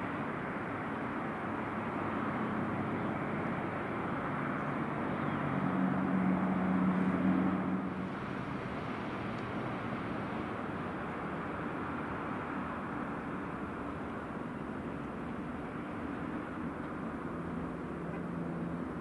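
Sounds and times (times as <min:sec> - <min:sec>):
distant aircraft engines running: 0:00.0 - 0:19.0.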